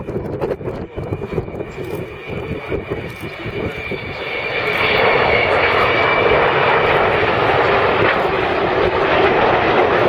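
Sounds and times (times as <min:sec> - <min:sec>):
aircraft engine roar: 0:00.0 - 0:10.0.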